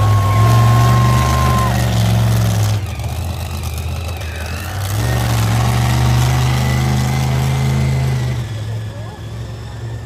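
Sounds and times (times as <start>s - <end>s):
monster truck engine running: 0.0s - 10.0s.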